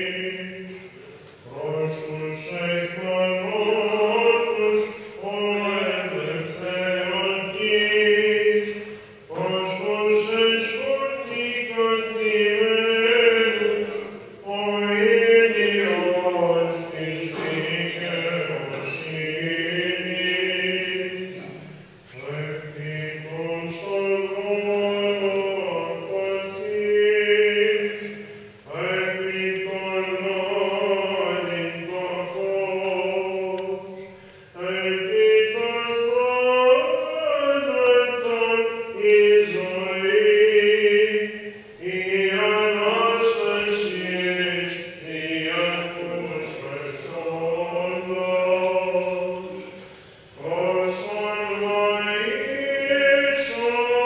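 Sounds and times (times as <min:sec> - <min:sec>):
person chanting ornamented melody: 0:00.0 - 0:49.8, 0:50.4 - 0:54.0.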